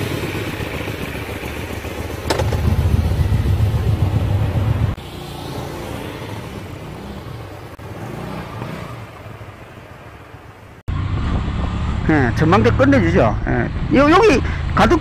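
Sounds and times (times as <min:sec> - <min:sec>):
motorcycle engine hum: 0:00.0 - 0:14.9
vehicle engine with road noise: 0:00.0 - 0:15.0.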